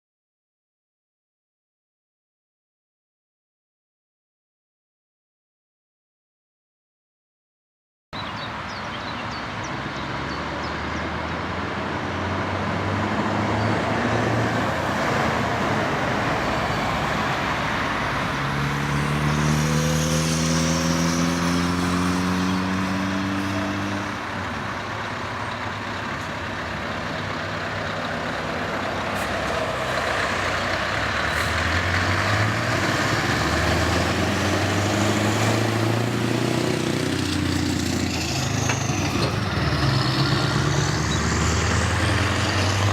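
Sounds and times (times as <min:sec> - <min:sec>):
diesel truck engine accelerating: 0:08.2 - 0:42.9.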